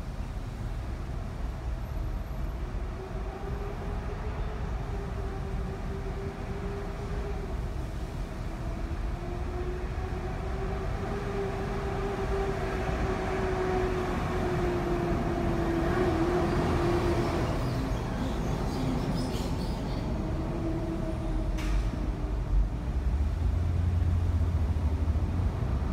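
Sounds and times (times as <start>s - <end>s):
city traffic: 0.0s - 25.9s.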